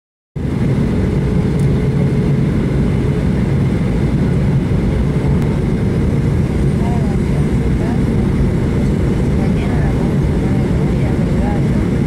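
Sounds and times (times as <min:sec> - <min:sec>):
airliner cabin engine rumble: 0:00.4 - 0:12.0.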